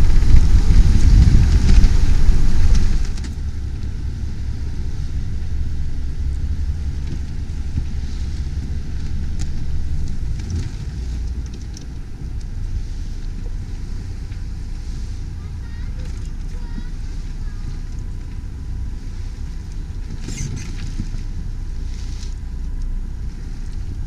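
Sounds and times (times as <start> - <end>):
sea rushing: 0.0 - 24.0
wind buffeting microphone: 0.0 - 24.0.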